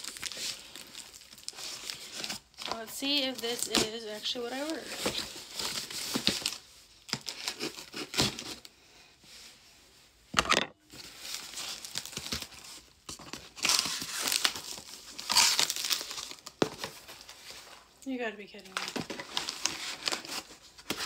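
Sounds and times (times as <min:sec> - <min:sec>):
cardboard tearing and rustling: 0:00.0 - 0:08.7, 0:10.5 - 0:17.8, 0:18.8 - 0:21.0.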